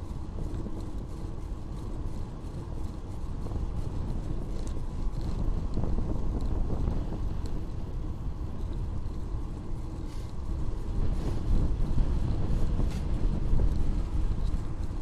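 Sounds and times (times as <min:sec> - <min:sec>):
bicycle tyres rolling on asphalt: 0:00.0 - 0:15.0
wind on microphone: 0:00.0 - 0:15.0.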